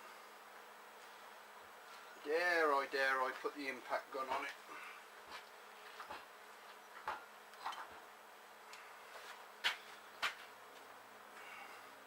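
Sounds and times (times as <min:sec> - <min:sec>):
faint steady buzz: 0:00.0 - 0:12.0.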